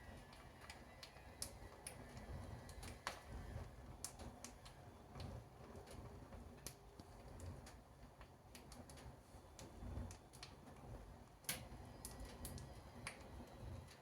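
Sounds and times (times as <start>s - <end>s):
fire crackling and popping: 0.0s - 14.0s
low rumble of flame: 0.0s - 14.0s.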